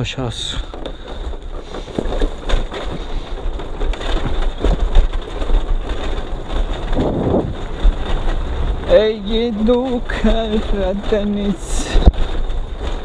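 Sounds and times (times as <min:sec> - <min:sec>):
tyres crunching over gravel: 0:00.0 - 0:13.0
wind rumble on microphone: 0:00.6 - 0:13.0.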